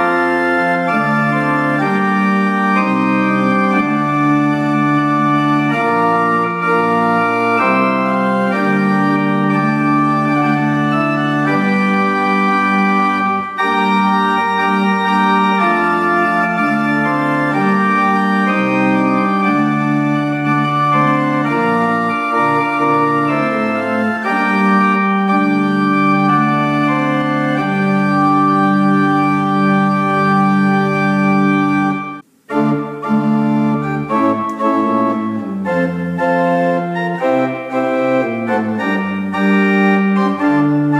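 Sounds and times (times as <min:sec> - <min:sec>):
pipe organ playing chords: 0:00.0 - 0:40.9.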